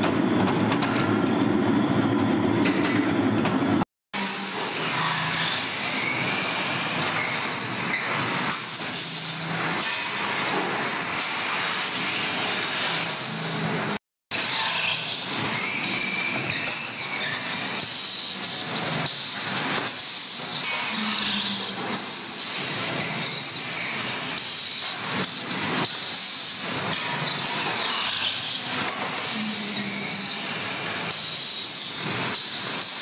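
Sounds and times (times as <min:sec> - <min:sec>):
drilling machines mechanical din: 0:00.0 - 0:33.0.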